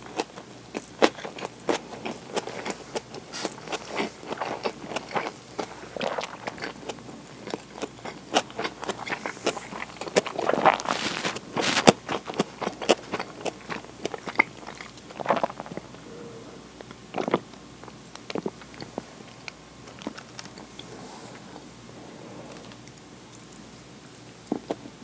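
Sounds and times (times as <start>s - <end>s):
chewing: 0.0s - 21.8s, 22.5s - 24.8s.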